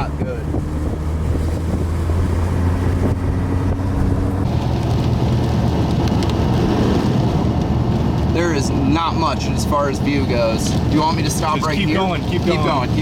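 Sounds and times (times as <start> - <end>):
car engine: 0.0 - 13.0
road noise: 0.0 - 13.0.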